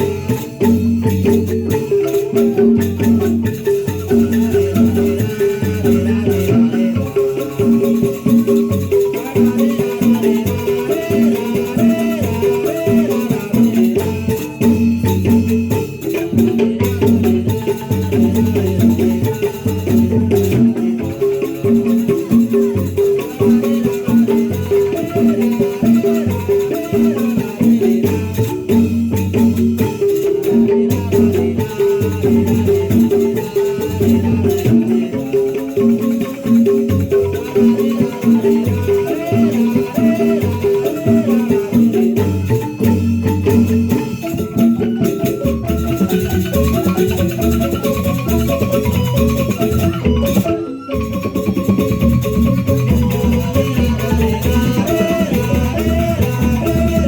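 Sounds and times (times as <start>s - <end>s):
mallet percussion pattern: 0.0s - 57.0s.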